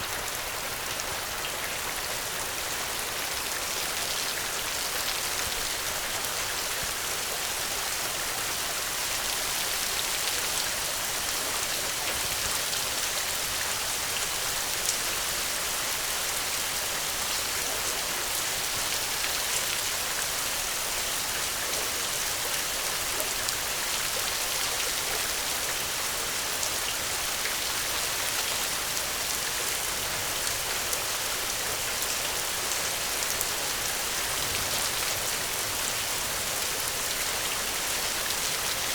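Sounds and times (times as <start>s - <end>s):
rain hissing on surfaces: 0.0s - 38.9s.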